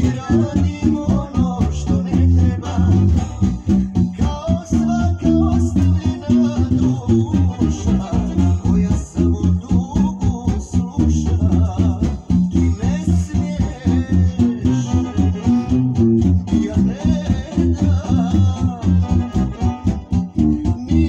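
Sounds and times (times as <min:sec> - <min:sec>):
electric bass guitar playing: 0:00.0 - 0:21.0.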